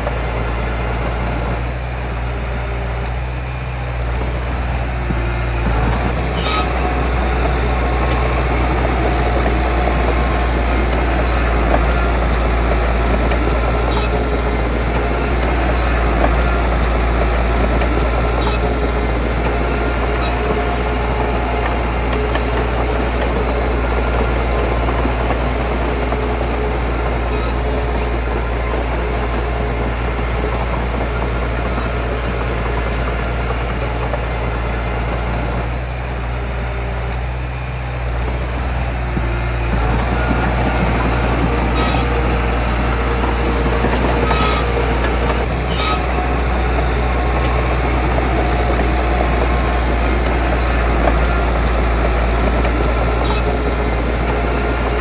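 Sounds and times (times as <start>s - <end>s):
diesel engine rumbling: 0.0s - 55.0s.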